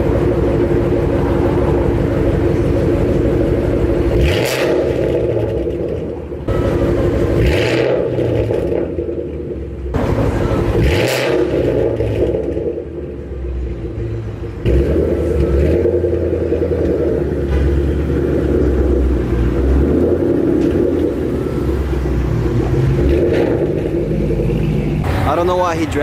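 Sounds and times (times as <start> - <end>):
car engine rumbling exhaust: 0.0 - 26.0.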